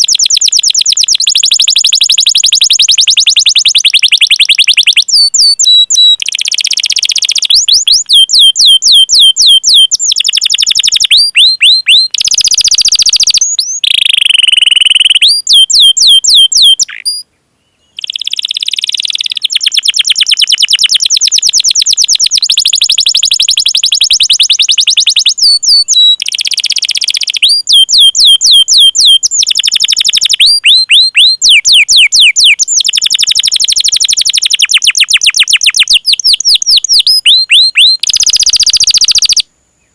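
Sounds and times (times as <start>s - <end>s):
canary singing trills: 0.0s - 39.5s.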